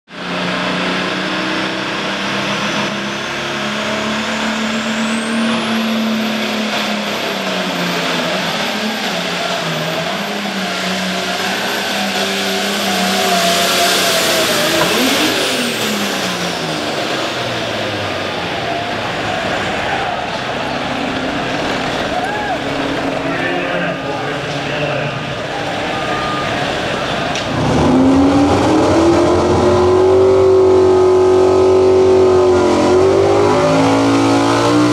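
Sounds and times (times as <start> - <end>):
tractor engine under load: 0.2 - 34.9.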